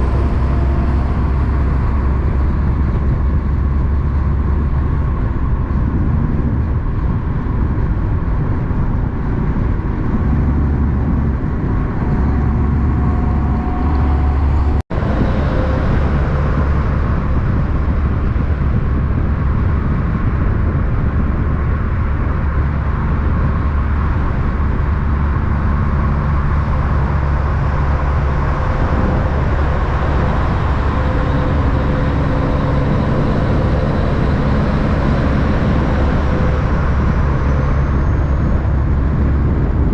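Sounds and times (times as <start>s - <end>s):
low rumble of motor vehicles: 0.0s - 39.9s.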